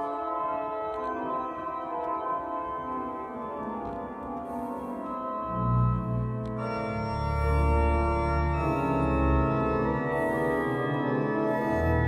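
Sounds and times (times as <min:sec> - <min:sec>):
church organ chords: 0:00.0 - 0:12.0.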